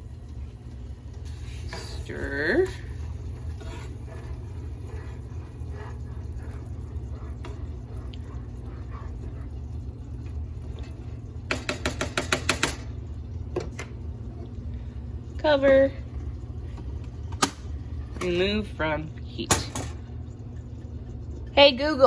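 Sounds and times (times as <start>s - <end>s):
rice stirred into boiling water: 0.0s - 19.1s
steady low hum: 0.0s - 22.0s.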